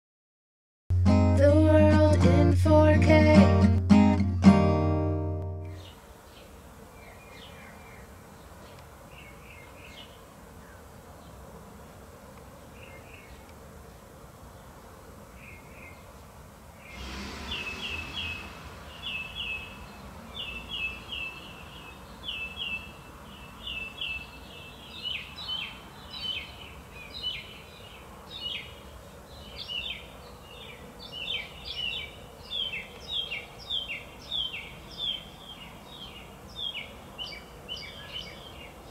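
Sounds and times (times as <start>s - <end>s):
faint background hiss: 1.1s - 38.9s
small birds chirping: 5.7s - 16.2s, 16.8s - 38.9s.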